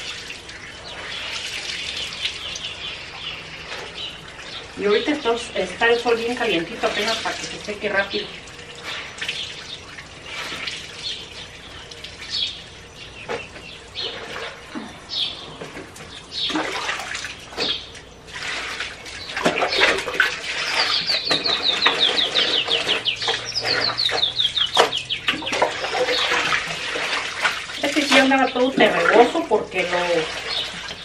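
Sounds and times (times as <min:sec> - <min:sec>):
water running and splashing: 0:00.0 - 0:31.0.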